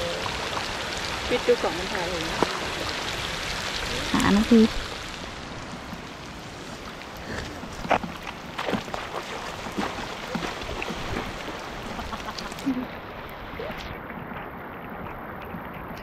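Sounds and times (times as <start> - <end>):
rain on water: 0.0 - 16.0
water splashes: 0.0 - 16.0.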